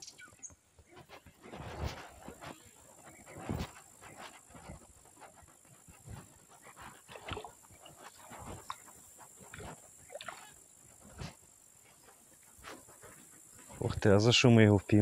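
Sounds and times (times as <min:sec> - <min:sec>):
rustles and knocks in reeds: 0:00.0 - 0:14.0.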